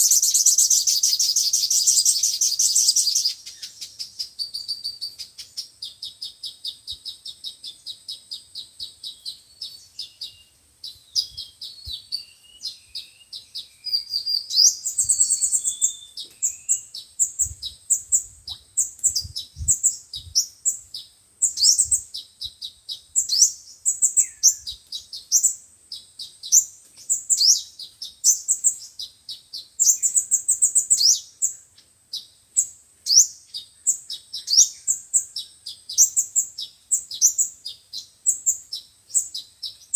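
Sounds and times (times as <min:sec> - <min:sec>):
sunbirds singing: 0:00.0 - 0:39.9.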